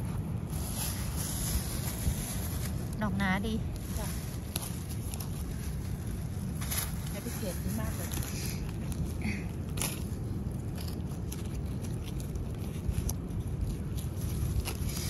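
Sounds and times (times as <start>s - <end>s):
dry leaves crackling and rustling: 0.0s - 15.0s
steady low rumble: 0.0s - 15.0s.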